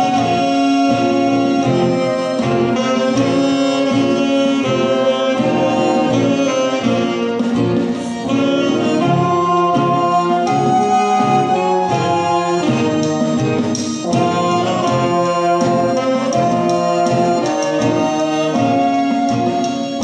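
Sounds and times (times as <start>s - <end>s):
folk band playing: 0.0s - 20.0s.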